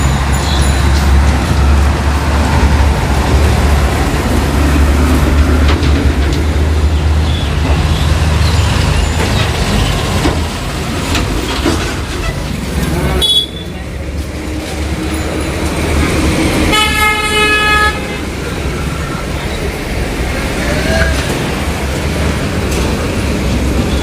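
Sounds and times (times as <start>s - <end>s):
heavy truck engine rumbling: 0.0s - 24.0s
road and traffic noise: 0.0s - 24.0s.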